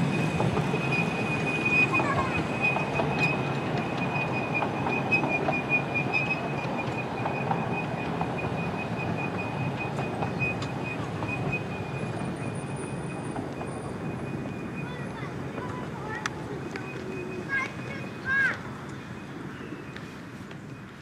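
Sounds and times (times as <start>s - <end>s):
high wheel squeal: 0.0s - 20.9s
rumble of wheels on track: 0.0s - 21.0s.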